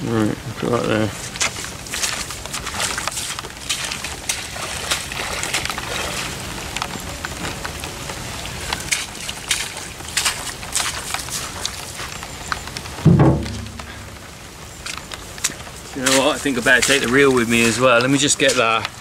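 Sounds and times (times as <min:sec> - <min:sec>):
rain: 0:00.0 - 0:19.0
wind: 0:00.0 - 0:19.0
rubber boots splashing through water: 0:01.2 - 0:07.0, 0:08.3 - 0:19.0.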